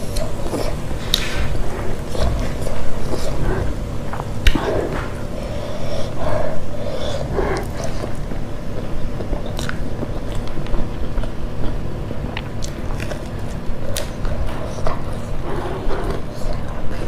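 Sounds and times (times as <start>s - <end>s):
mouth chewing rice: 0.0s - 17.0s.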